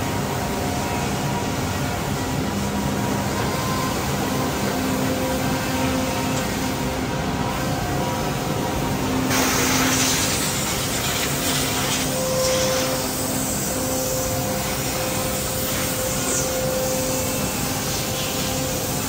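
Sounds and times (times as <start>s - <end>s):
continuous machinery hiss: 0.0s - 19.0s.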